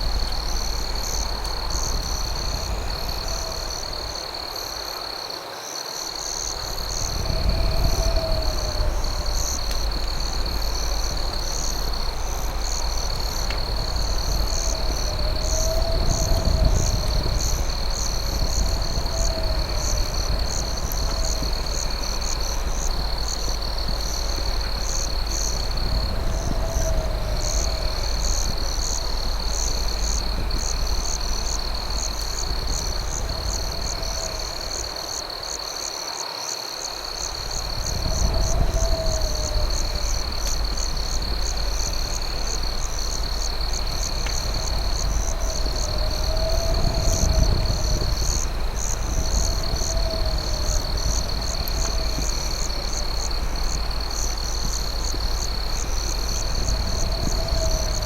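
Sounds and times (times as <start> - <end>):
steady low rumble: 0.0 - 4.7, 6.5 - 35.4, 37.3 - 58.0
crickets trilling: 0.0 - 58.0.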